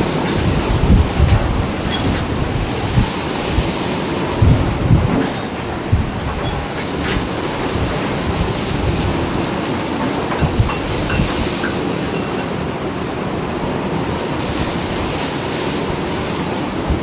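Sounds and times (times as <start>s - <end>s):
boat hull and engine rumble: 0.0s - 17.0s
waves thudding against hull: 0.0s - 17.0s
wind on microphone: 0.0s - 17.0s.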